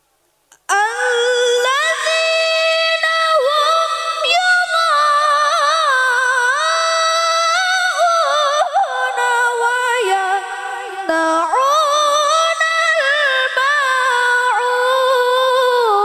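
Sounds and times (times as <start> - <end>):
girl reciting melodically: 0.5 - 16.0.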